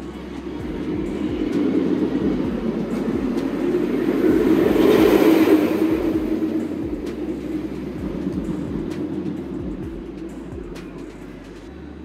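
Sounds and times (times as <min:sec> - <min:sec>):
roller coaster train rumbling on track: 0:00.0 - 0:12.0.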